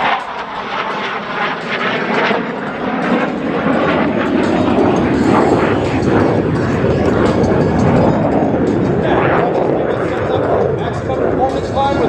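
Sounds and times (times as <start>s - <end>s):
fighter jet roaring: 0.0s - 12.0s.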